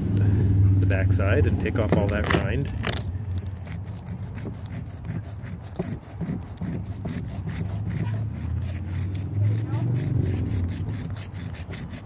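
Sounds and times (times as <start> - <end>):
shell scraping on coarse stone: 1.6 - 12.0.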